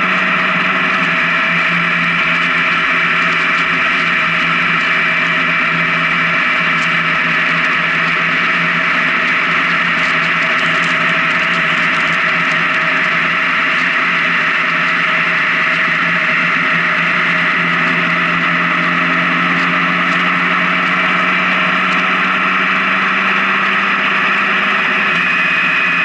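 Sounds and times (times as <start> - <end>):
motorcycle engine hum: 0.0 - 26.0
wind and road noise: 0.0 - 26.0.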